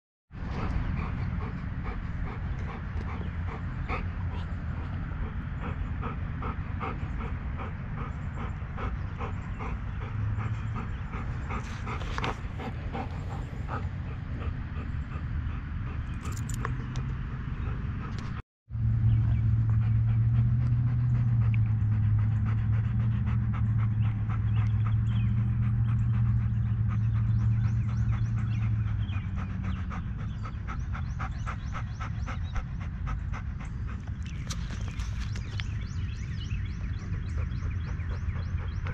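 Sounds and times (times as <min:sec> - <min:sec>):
steady low rumble: 0:00.3 - 0:38.9
dog panting rapidly: 0:00.4 - 0:18.4, 0:19.2 - 0:38.9.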